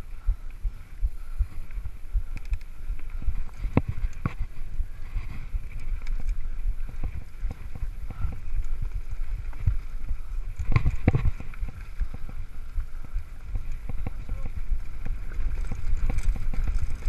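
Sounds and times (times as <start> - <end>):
bike tyres rumbling on dirt: 0.0 - 17.0
bike rattling and knocking: 0.1 - 17.0.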